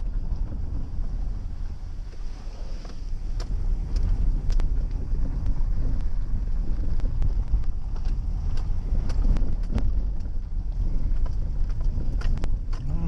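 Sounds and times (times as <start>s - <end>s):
vehicle engine and tyres rumbling: 0.0s - 13.0s.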